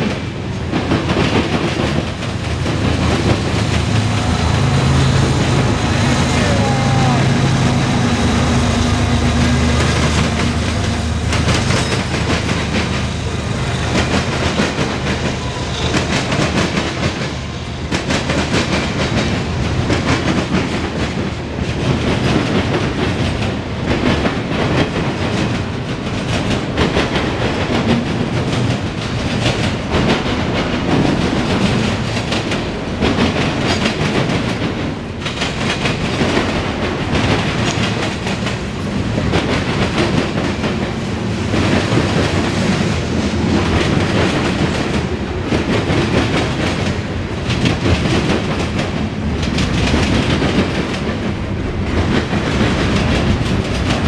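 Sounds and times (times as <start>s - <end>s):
clickety-clack over rail joints: 0.0s - 54.0s
diesel locomotive engine drone: 0.0s - 54.0s
train wheels rumbling on rail: 0.0s - 54.0s.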